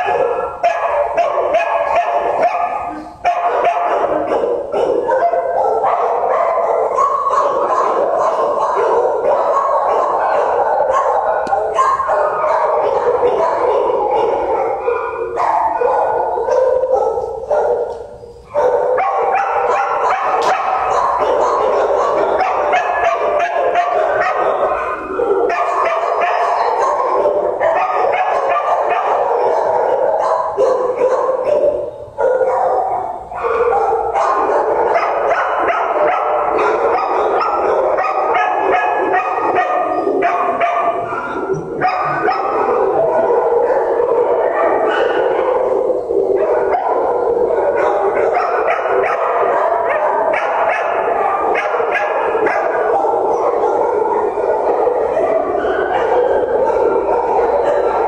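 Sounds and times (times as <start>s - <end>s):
dogs barking and yipping: 0.0s - 58.0s.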